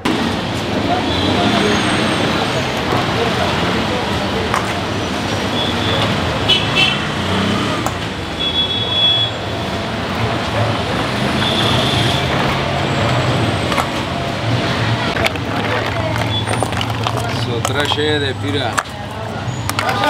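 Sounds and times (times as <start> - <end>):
rumble of passing vehicles: 0.0 - 20.0.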